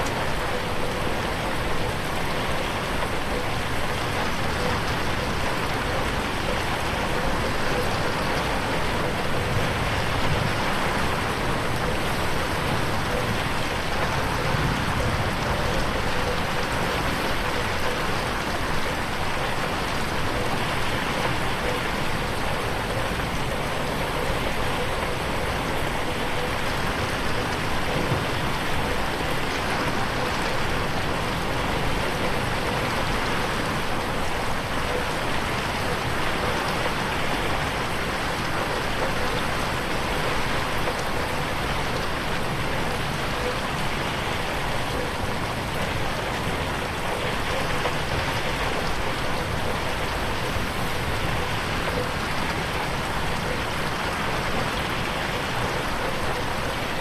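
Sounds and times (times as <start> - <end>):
rain pattering on window: 0.0 - 57.0.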